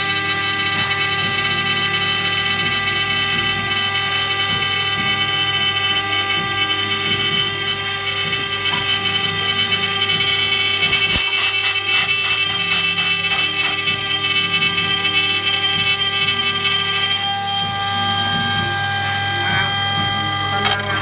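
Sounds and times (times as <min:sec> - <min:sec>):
router spindle whining while milling: 0:00.0 - 0:21.0.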